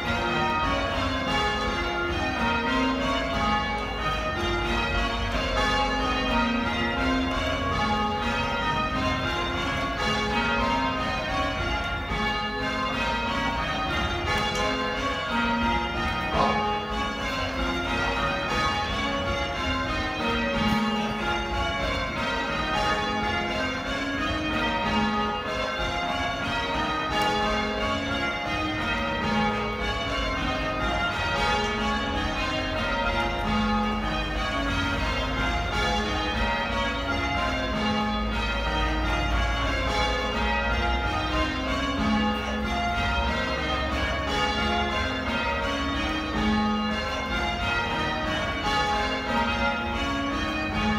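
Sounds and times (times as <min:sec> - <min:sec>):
church bells change ringing: 0:00.0 - 0:50.9.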